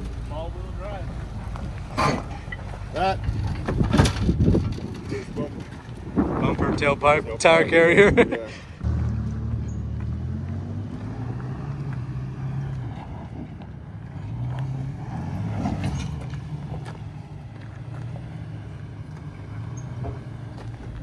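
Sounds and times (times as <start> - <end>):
off-road engine running: 0.0 - 21.0.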